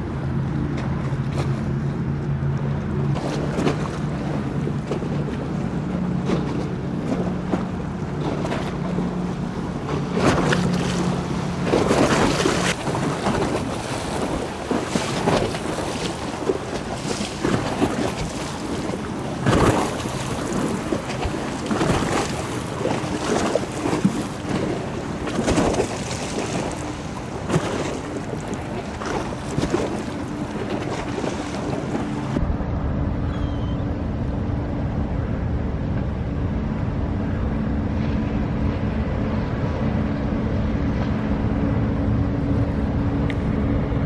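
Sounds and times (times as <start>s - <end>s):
motorboat engines passing: 0.0s - 44.0s.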